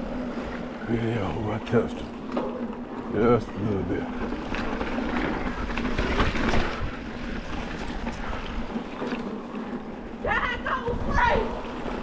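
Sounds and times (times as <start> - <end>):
tyre noise on dirt trail: 0.0 - 12.0.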